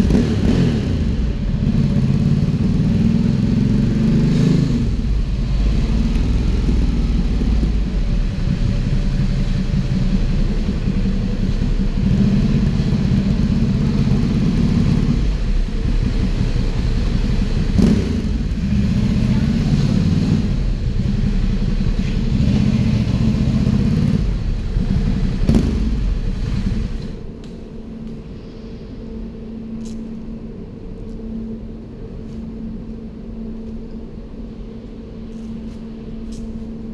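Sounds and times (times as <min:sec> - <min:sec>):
motorcycle engine rumbling: 0:00.0 - 0:35.2.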